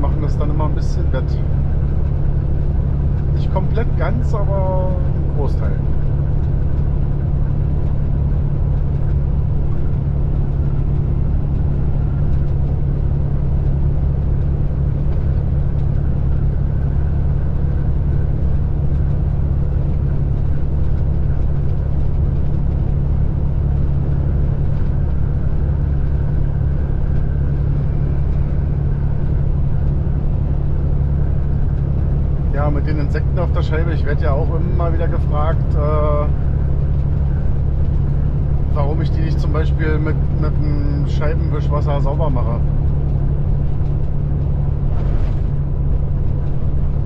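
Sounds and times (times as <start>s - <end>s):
truck engine and road drone: 0.0s - 47.0s.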